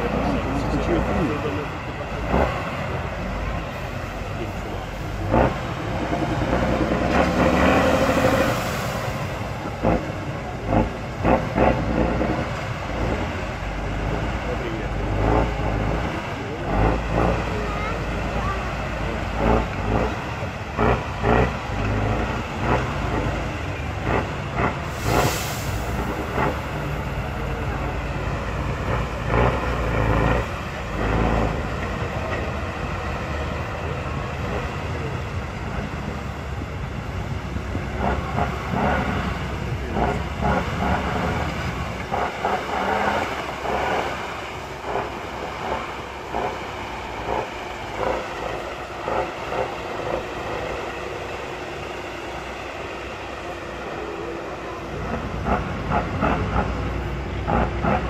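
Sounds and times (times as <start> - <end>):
diesel truck engine under load: 0.0 - 58.0.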